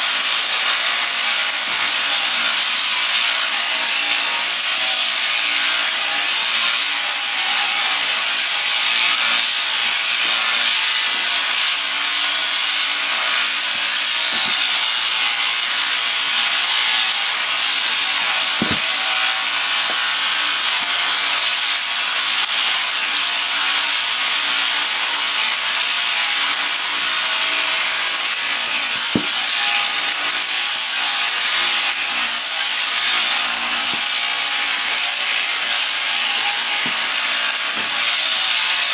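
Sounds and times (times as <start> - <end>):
sheep shearing handpiece running: 0.0 - 38.9.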